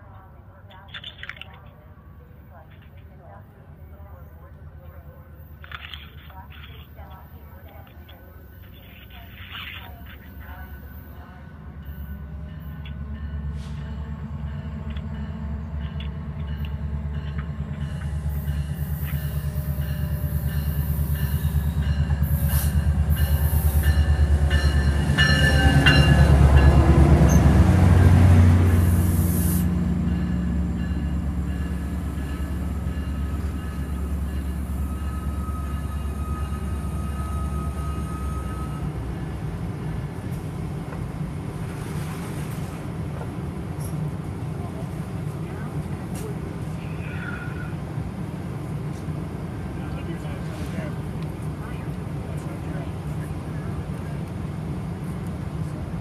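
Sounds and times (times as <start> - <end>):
diesel locomotive engine hum: 0.0 - 56.0.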